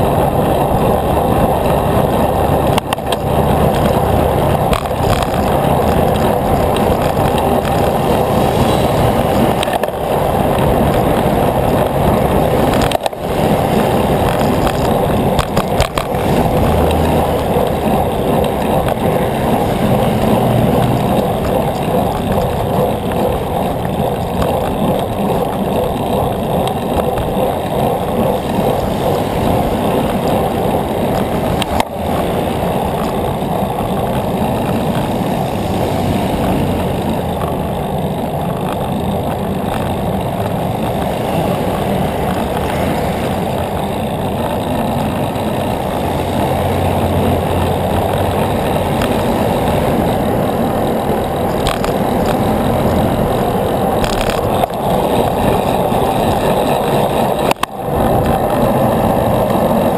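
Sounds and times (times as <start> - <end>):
bicycle road noise: 0.0 - 59.9
rushing wind: 0.0 - 59.9.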